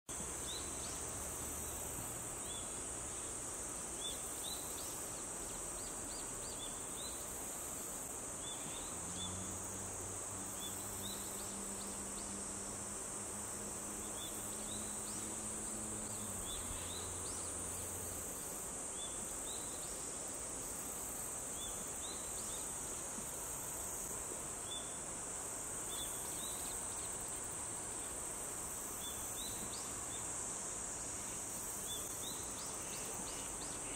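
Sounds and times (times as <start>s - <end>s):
insect chorus: 0.1s - 33.9s.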